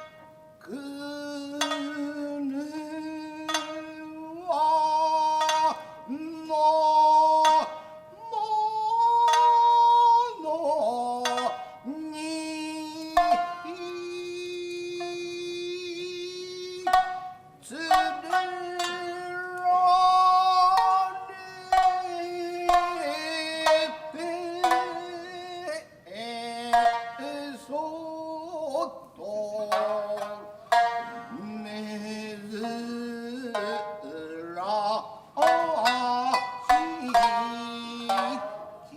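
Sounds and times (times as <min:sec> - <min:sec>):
person chanting long notes: 0:00.0 - 0:38.9
plucked shamisen: 0:00.0 - 0:38.9.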